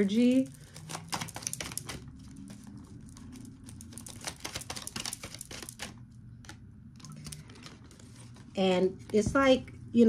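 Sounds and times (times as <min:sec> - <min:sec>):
cards being shuffled: 0:00.5 - 0:09.3.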